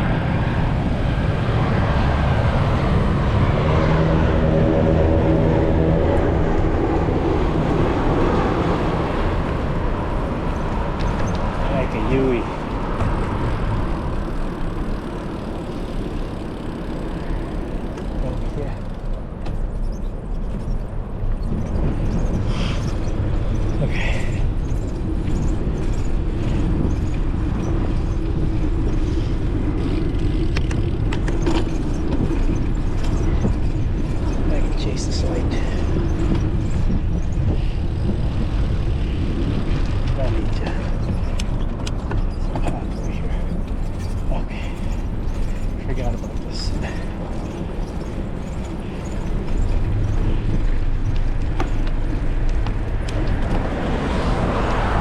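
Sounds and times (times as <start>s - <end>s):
bicycle clicks and rattles: 0.0s - 55.0s
road traffic noise: 0.0s - 55.0s
wind rumbling on microphone: 0.0s - 55.0s.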